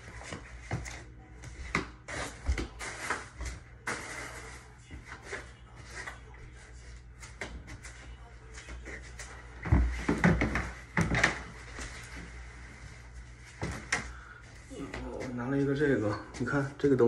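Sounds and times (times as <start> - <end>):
footsteps in a small room: 0.0 - 17.0.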